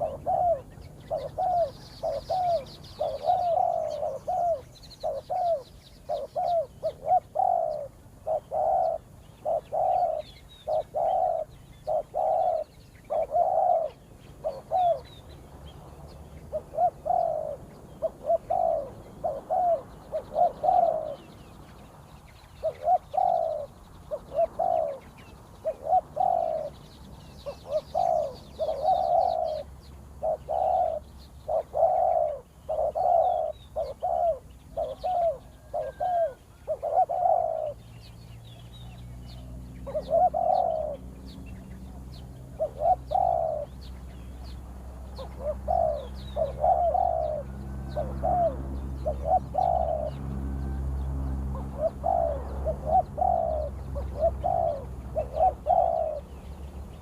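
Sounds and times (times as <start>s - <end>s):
dove cooing: 0.0s - 57.0s
small birds chirping: 0.0s - 57.0s.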